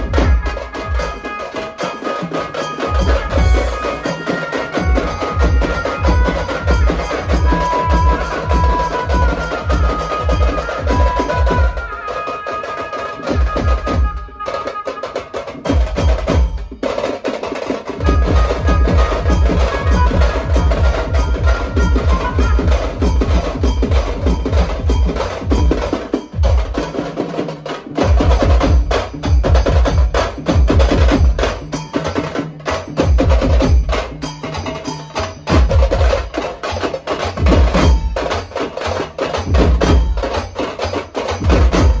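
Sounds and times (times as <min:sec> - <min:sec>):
fast drumming with sticks: 0:00.0 - 0:42.0.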